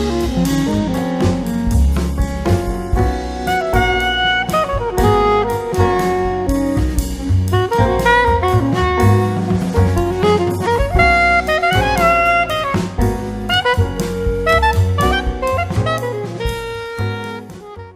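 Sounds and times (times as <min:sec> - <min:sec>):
instrumental music with drums: 0:00.0 - 0:17.9.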